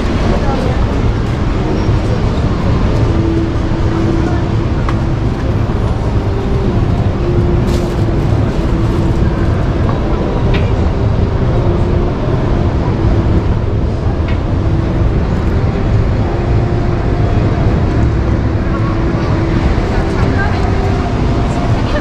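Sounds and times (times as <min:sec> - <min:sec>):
low hall rumble: 0:00.0 - 0:22.0
murmur of voices: 0:00.0 - 0:22.0.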